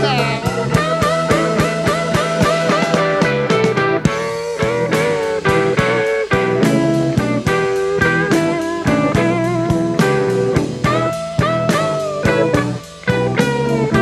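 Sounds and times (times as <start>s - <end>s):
blues-rock band playing live: 0.0s - 14.0s
electric lead guitar bent notes: 0.0s - 14.0s.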